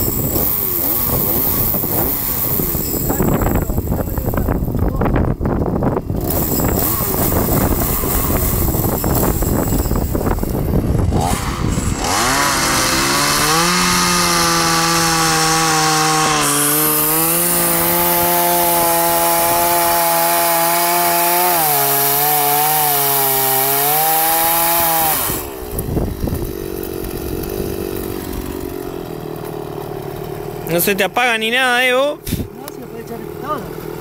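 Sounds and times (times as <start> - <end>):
chainsaw cutting a log: 0.0 - 34.0
chainsaw idling: 0.0 - 34.0.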